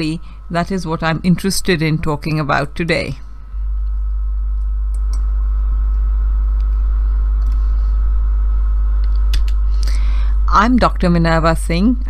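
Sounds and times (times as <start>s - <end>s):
high steady whine: 0.0s - 12.0s
low electrical hum: 0.0s - 12.0s.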